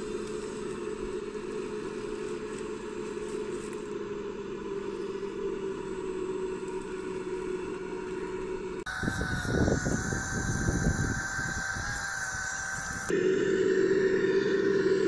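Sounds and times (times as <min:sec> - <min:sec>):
electric motors humming: 0:00.0 - 0:15.0.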